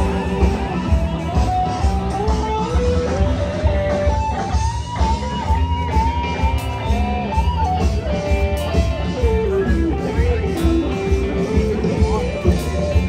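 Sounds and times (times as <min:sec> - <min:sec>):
gliding guitar melody: 0:00.0 - 0:13.0
pulsing bass beat: 0:00.0 - 0:13.0.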